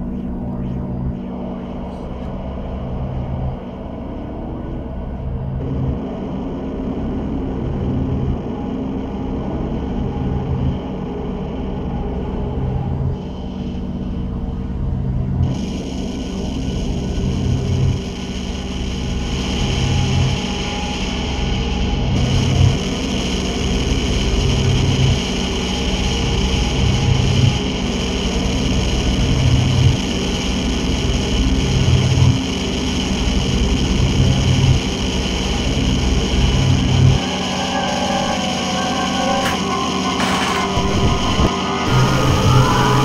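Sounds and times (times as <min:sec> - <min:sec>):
electronic drone music: 0:00.0 - 0:43.0
low bass pulse: 0:00.0 - 0:43.0.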